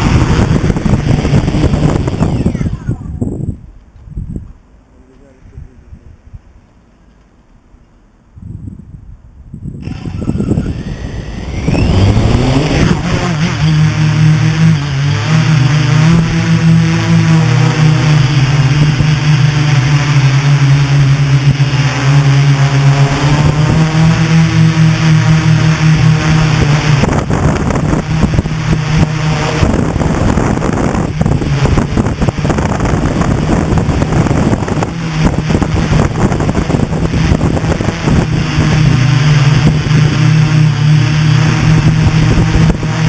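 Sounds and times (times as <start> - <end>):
drone motors humming: 0.0 - 3.9, 9.6 - 43.0
air buffeting microphone: 0.0 - 4.6, 8.4 - 43.0.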